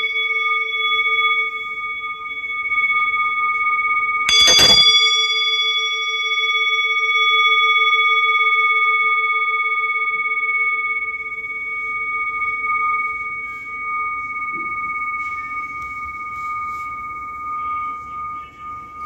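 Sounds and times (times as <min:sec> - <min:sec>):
singing bowl ringing: 0:00.0 - 0:19.0
singing bowl strike: 0:00.0 - 0:19.0.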